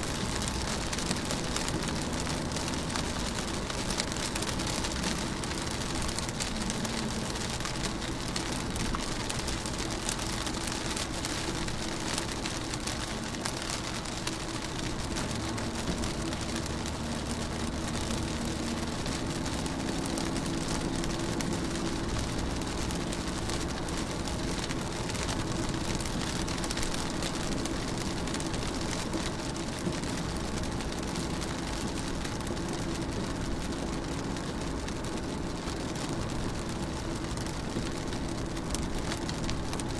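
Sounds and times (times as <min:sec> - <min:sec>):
rain on a car window: 0:00.0 - 0:39.9.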